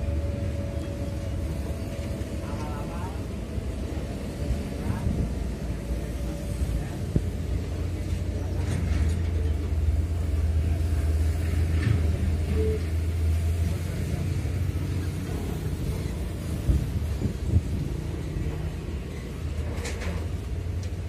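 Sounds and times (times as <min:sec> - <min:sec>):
diesel engine rumble: 0:00.0 - 0:21.0.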